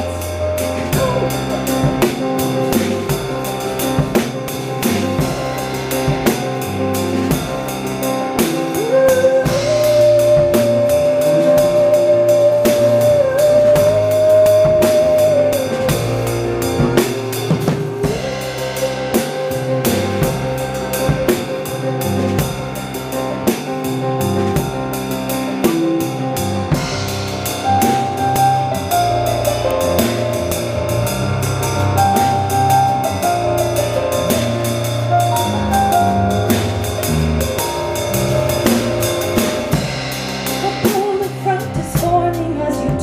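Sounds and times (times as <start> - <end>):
drum kit beat: 0.0 - 43.0
live band music: 0.0 - 43.0.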